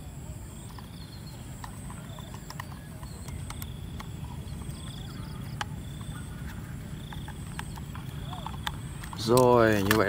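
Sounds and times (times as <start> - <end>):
steady low rumble: 0.0 - 9.9.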